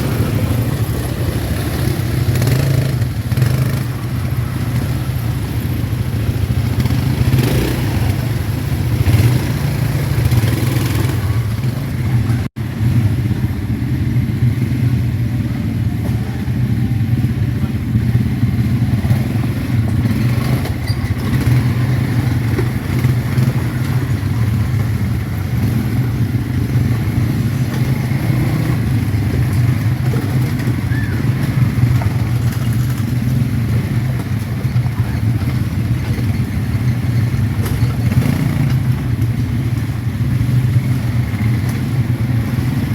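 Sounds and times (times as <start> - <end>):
atv engines rumbling: 0.0 - 42.9.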